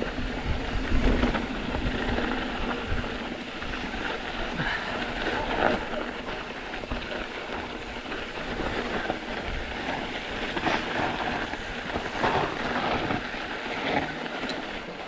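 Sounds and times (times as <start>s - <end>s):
bike knocks and rattles: 0.5s - 15.0s.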